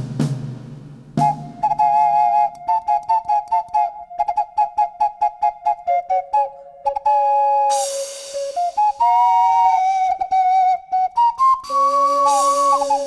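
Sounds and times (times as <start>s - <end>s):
ocarina melody: 1.2s - 13.0s.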